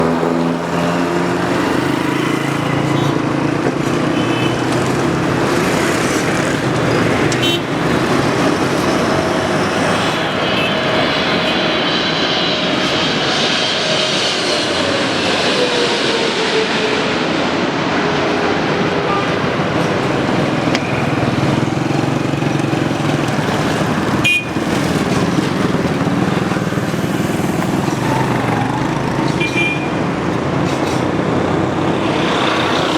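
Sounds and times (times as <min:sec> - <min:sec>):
jet airliner roar passing overhead: 0:00.0 - 0:32.9.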